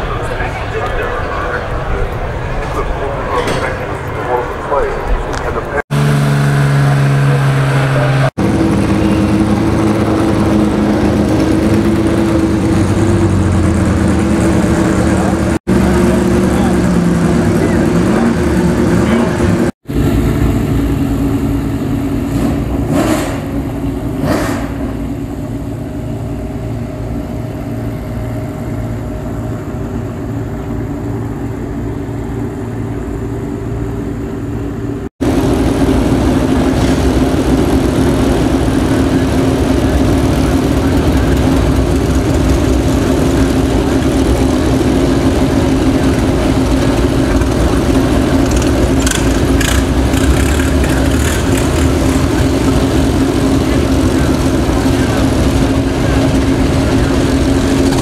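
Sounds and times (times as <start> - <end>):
racing car engine running: 0.0 - 58.0.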